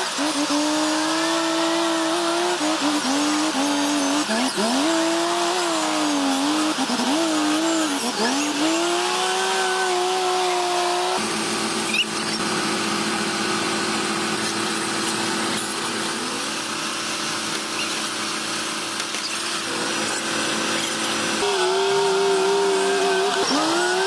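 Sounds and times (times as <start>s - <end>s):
bulldozer diesel engine: 0.0s - 24.0s.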